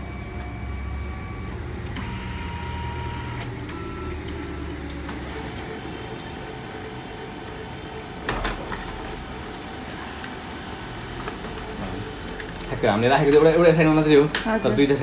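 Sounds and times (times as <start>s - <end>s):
printer motor hum and whine: 0.0s - 15.0s.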